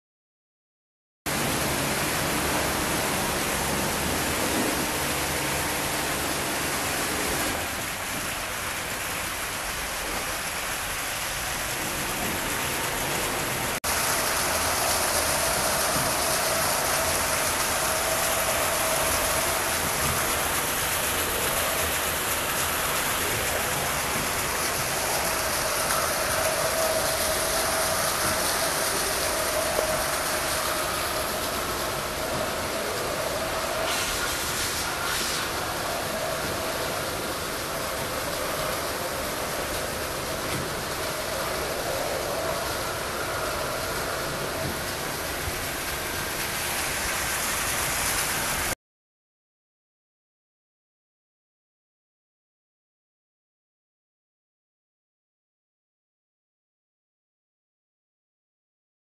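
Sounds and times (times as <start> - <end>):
water rushing through channel: 1.3 - 48.8
water splashing off water wheels: 1.3 - 48.8.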